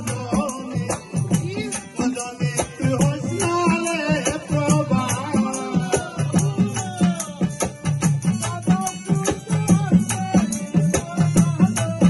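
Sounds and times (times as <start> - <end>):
drum beating quick rhythm: 0.0 - 12.0
harmonium playing: 0.0 - 12.0.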